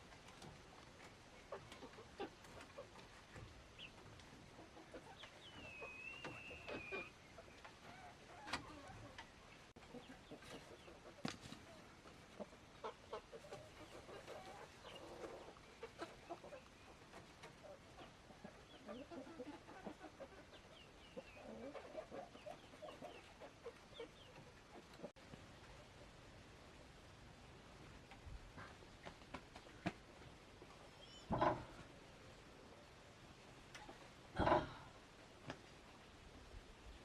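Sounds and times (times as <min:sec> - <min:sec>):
chickens clucking: 0:00.0 - 0:37.0.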